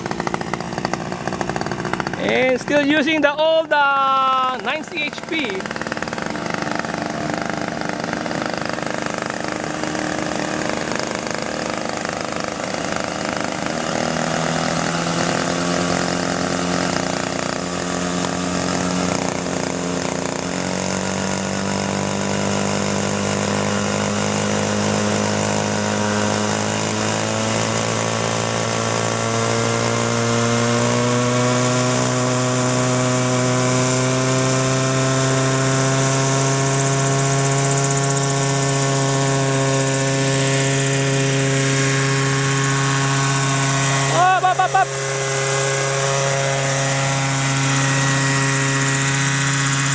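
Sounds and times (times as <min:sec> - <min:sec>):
rc helicopter engine running: 0:00.0 - 0:49.9.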